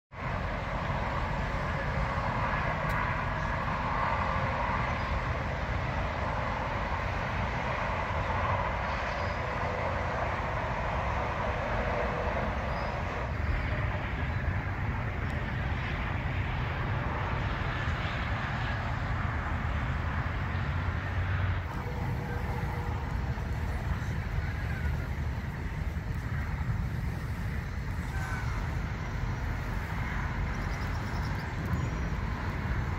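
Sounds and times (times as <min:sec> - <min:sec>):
highway traffic: 0:00.1 - 0:32.9
wind rumble on microphone: 0:00.2 - 0:32.9.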